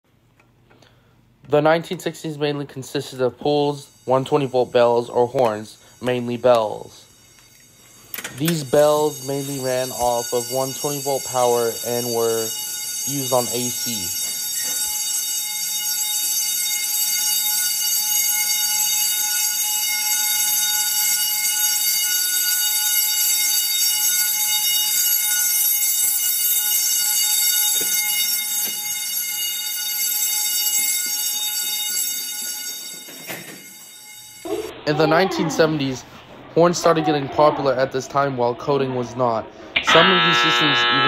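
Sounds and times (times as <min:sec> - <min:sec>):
fire alarm bell ringing: 0:01.8 - 0:34.7, 0:39.8 - 0:41.0.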